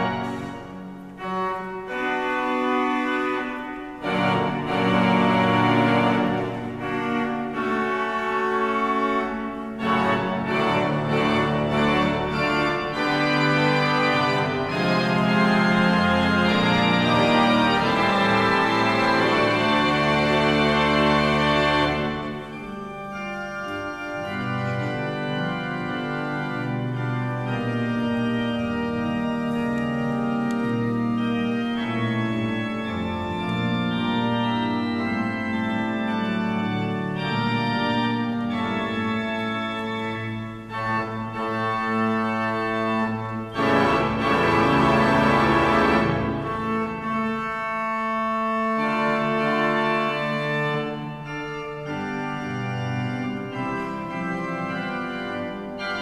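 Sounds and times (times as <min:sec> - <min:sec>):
organ chords: 0:00.0 - 0:56.0.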